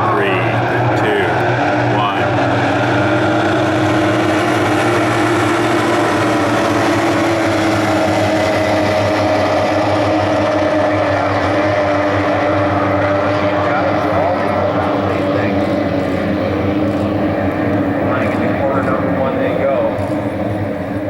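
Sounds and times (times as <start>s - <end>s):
outboard racing engines at full throttle: 0.0s - 21.0s.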